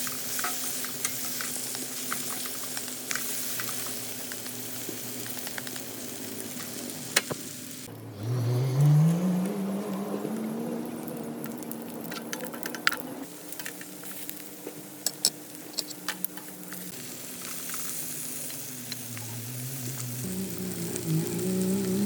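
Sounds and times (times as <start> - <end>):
sharp crackles and clicks: 0.0 - 7.4, 9.0 - 22.0
food sizzling in a pan: 0.0 - 7.9, 8.8 - 22.0.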